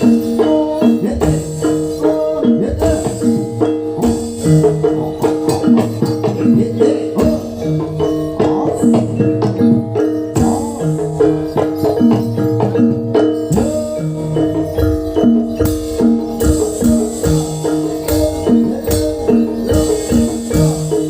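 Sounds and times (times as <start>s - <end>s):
metallophones and gongs: 0.0s - 21.0s
steady drumming: 0.0s - 21.0s.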